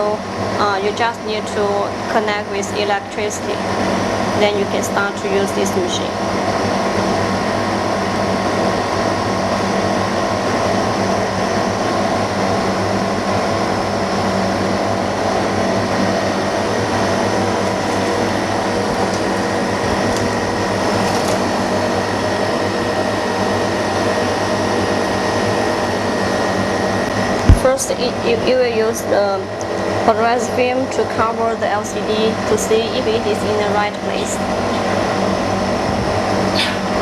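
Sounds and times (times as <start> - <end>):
fan running hum: 0.0 - 37.0.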